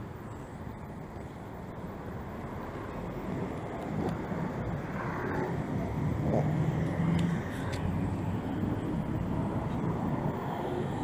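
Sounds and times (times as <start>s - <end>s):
car engine and tyres approaching: 0.0s - 11.0s
street traffic noise: 0.0s - 11.0s.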